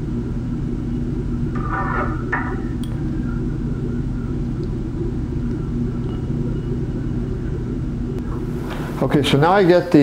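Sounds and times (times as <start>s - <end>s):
low electrical hum and rumble: 0.0s - 10.0s.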